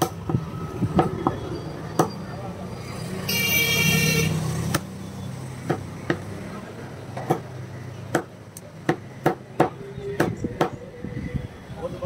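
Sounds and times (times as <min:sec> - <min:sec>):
passing motor vehicle: 0:00.0 - 0:12.0.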